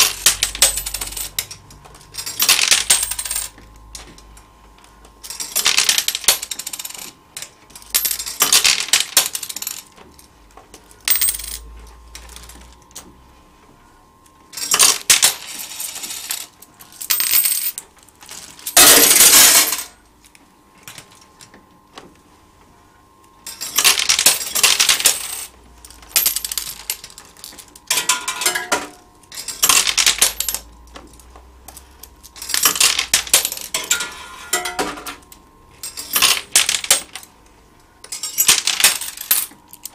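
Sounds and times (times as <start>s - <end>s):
coins clattering in arcade machine: 0.0s - 4.2s, 5.2s - 10.3s, 10.9s - 13.0s, 14.5s - 20.0s, 23.4s - 37.3s, 38.0s - 39.9s.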